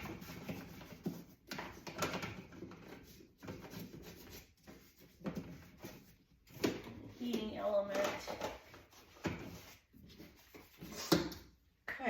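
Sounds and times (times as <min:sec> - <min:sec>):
brush scrubbing: 0:00.0 - 0:06.5, 0:07.1 - 0:11.4.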